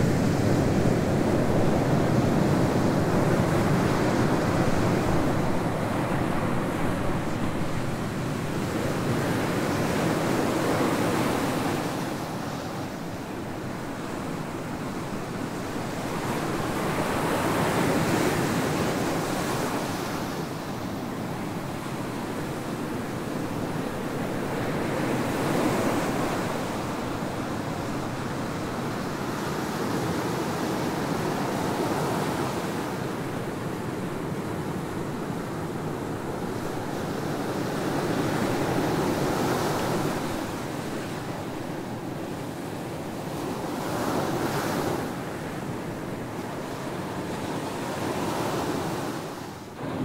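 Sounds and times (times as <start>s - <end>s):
waves breaking on beach: 0.0s - 50.0s.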